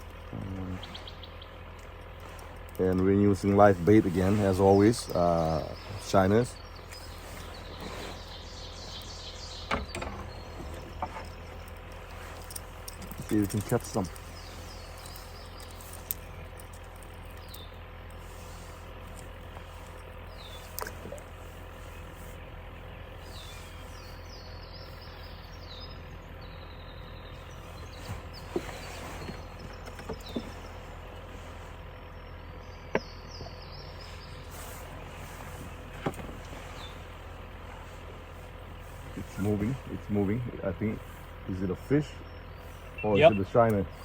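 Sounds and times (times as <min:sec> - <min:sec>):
birds chirping: 0:00.0 - 0:44.0
low ambient rumble: 0:00.0 - 0:44.0.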